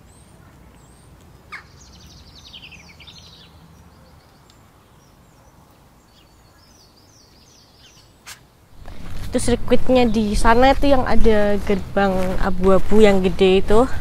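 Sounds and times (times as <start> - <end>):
small birds chirping and singing: 0.0 - 14.0.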